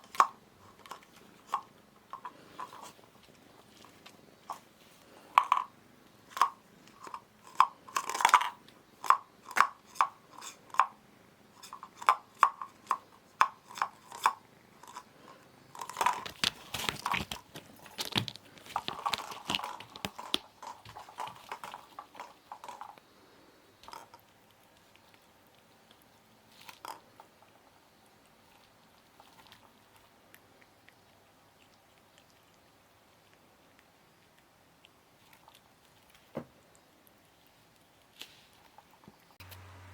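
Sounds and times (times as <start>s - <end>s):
kitten crunching and chewing: 0.0s - 39.9s.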